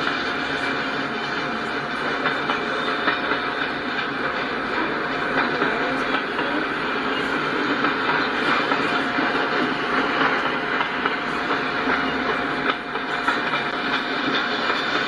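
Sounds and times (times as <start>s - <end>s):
freight train wheels rolling: 0.0s - 15.0s.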